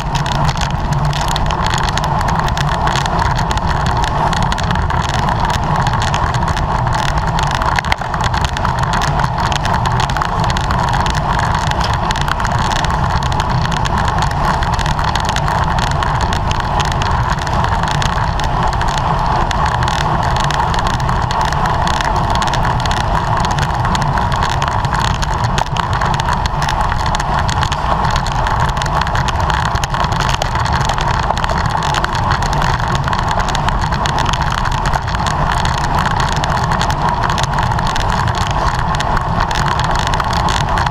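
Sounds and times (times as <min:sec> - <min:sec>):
bicycle road noise: 0:00.0 - 0:40.9.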